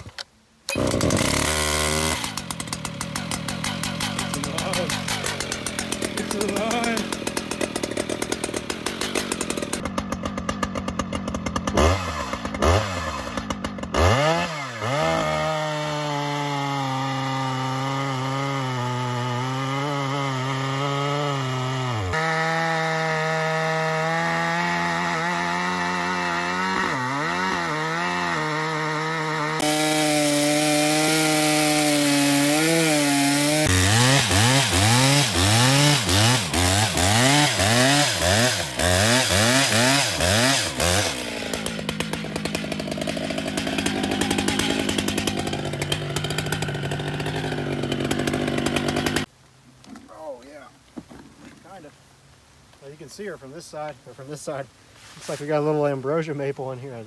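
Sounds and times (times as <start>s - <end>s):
chainsaw cutting log: 0.0s - 49.3s.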